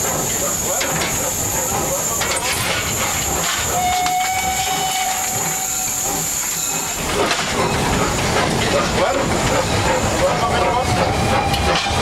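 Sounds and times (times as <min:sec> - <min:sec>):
steam hissing: 0:00.0 - 0:11.4
locomotive running and rattling: 0:00.0 - 0:12.0.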